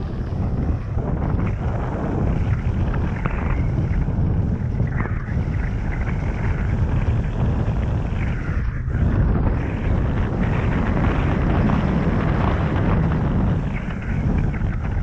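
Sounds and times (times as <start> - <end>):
bike rattling over rough ground: 0.0 - 15.0
bike tyres rolling on dirt: 0.0 - 15.0
wind buffeting microphone: 0.0 - 15.0.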